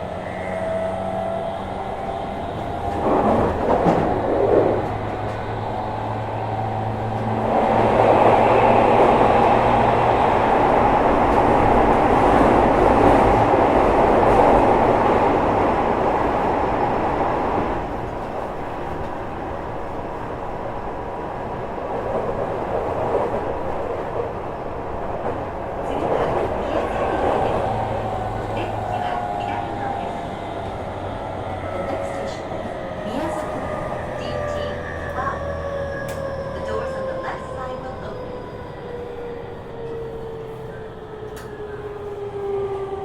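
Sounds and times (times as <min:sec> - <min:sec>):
train wheel-on-rail rumble: 0:00.0 - 0:43.0.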